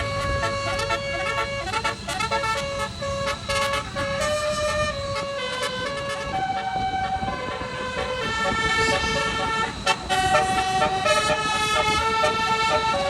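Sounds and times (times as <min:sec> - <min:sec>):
bus engine running: 0:00.0 - 0:13.0
multi-tone bus air horn tune: 0:00.0 - 0:13.0.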